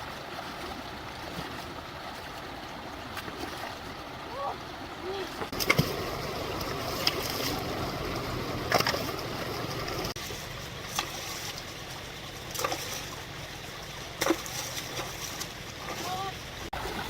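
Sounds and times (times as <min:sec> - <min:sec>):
flowing water: 0:00.0 - 0:17.0
water splashing: 0:00.0 - 0:17.0.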